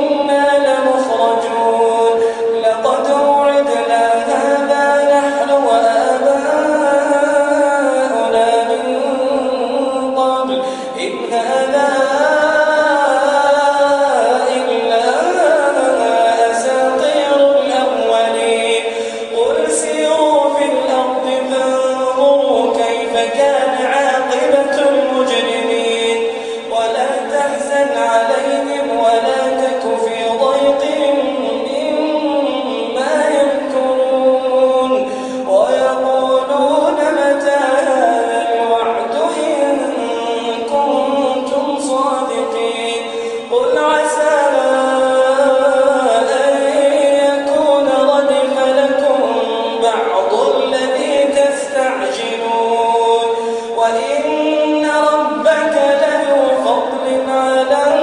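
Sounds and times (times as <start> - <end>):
man chanting melodically: 0.0 - 58.0.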